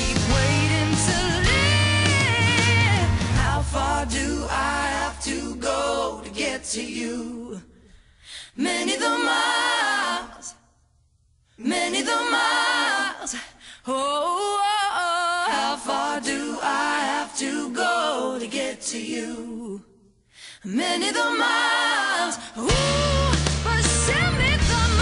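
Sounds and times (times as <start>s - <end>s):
female vocal harmonies: 0.0s - 10.8s, 11.5s - 25.0s.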